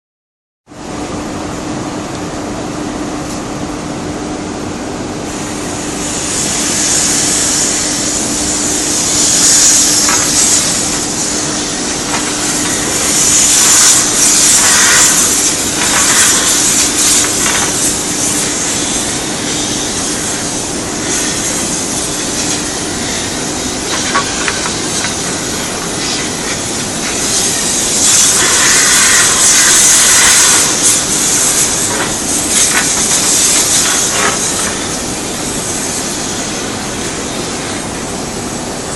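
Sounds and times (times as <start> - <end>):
steady low hum: 0.7 - 38.9
compressed air lance hissing: 5.2 - 38.3.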